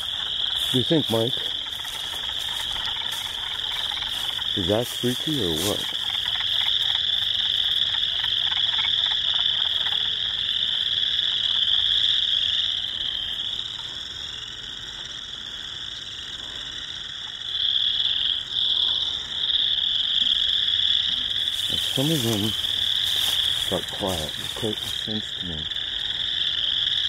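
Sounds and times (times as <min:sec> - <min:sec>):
frogs chorus calling: 0:00.0 - 0:27.0.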